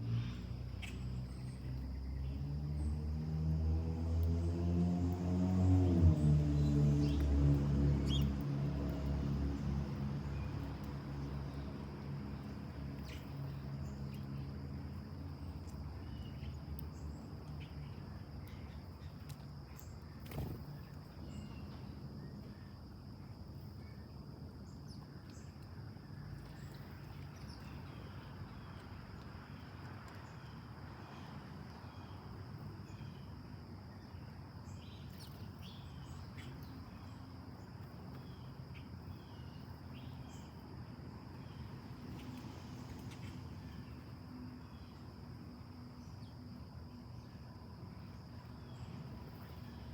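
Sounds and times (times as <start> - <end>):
insect chorus drone: 0.0 - 49.9.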